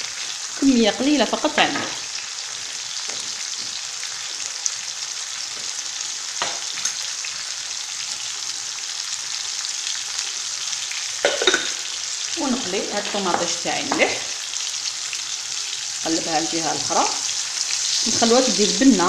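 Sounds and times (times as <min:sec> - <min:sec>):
food sizzling in frying pan: 0:00.0 - 0:19.0.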